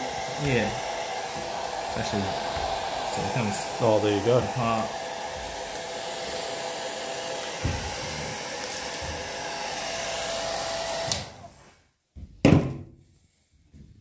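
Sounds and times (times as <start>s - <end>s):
hair dryer blowing: 0.0s - 11.6s.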